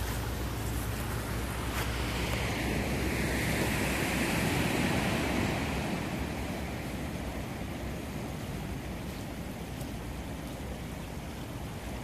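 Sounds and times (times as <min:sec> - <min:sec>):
ocean surf rushing: 0:00.0 - 0:12.0.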